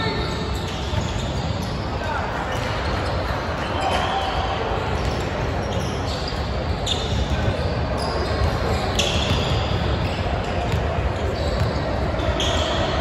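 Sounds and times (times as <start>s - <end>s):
hum of a large hall: 0.0s - 13.0s
sneakers squeaking on hardwood floor: 0.0s - 13.0s.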